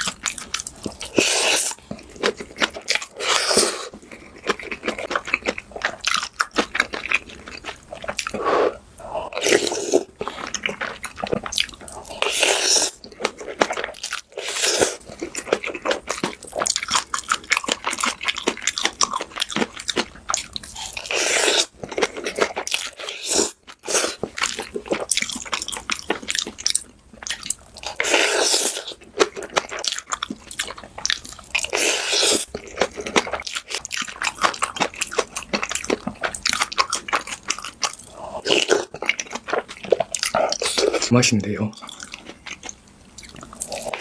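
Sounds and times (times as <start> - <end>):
person chewing and crunching food: 0.0 - 44.0.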